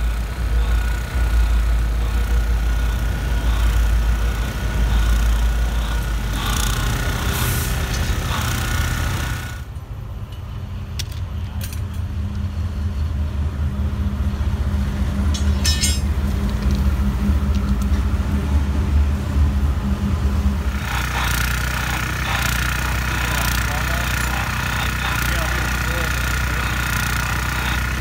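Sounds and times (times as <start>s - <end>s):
diesel locomotive rumbling: 0.0s - 28.0s
rail grinder grinding: 0.0s - 28.0s.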